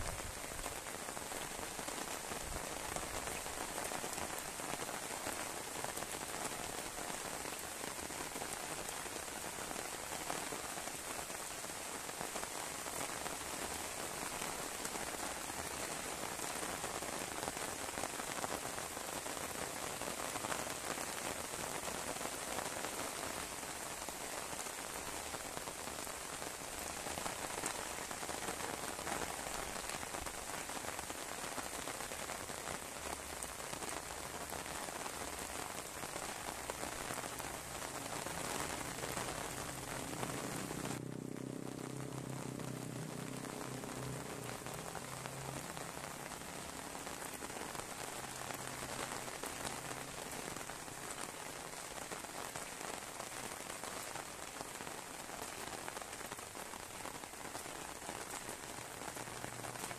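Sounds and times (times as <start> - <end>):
heavy rain on pavement and plants: 0.0 - 59.9.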